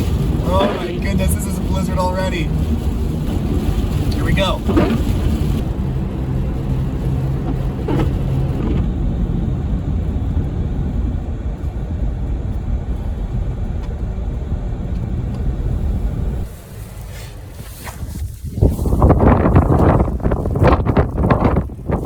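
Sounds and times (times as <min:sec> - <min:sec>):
car engine hum: 0:00.0 - 0:22.0
road and tyre noise: 0:00.0 - 0:22.0.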